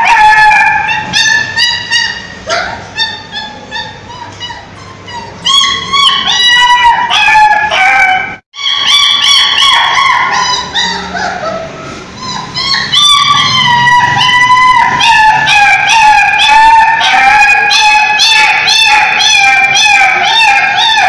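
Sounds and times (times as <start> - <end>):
dog whining and yelping: 0.0 - 21.0.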